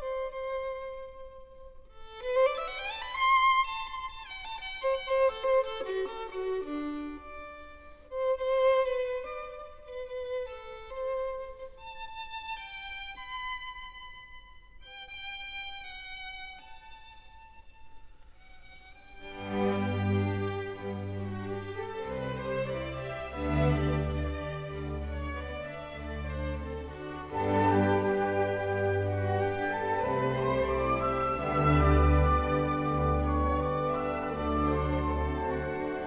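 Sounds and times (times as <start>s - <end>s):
slow violin melody: 0.0s - 36.0s.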